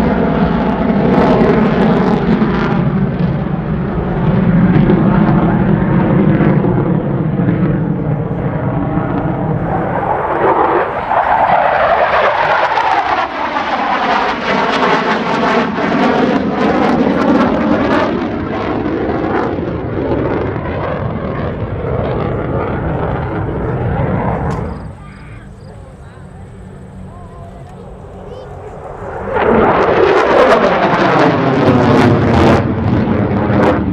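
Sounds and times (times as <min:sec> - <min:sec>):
fighter jet passing: 0:00.0 - 0:33.9.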